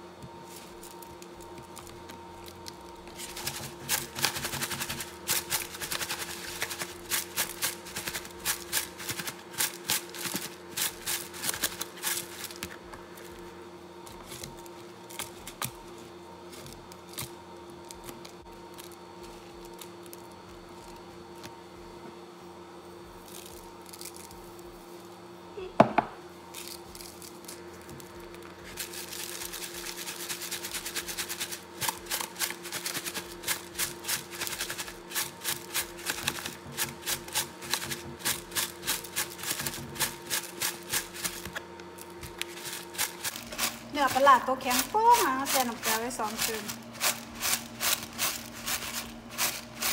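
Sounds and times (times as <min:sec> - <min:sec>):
low steady hum: 0:00.0 - 0:49.9.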